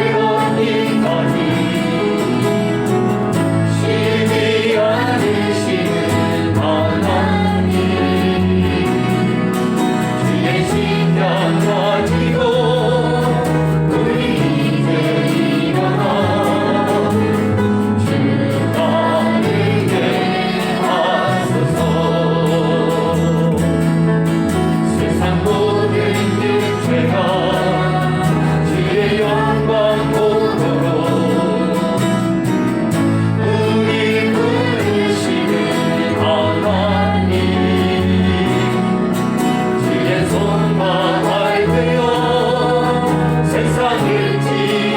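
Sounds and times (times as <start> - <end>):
group singing a praise song: 0.0 - 44.9.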